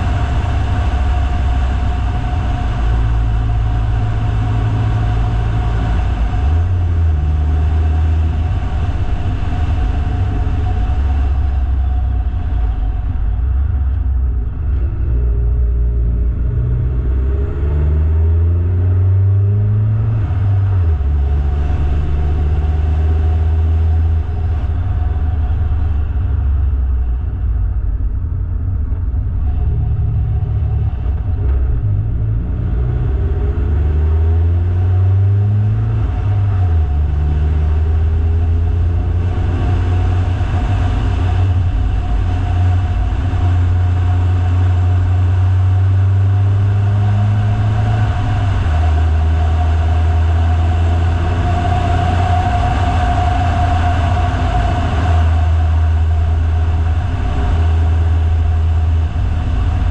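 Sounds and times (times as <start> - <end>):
car engine climbing under load: 0.0 - 59.9.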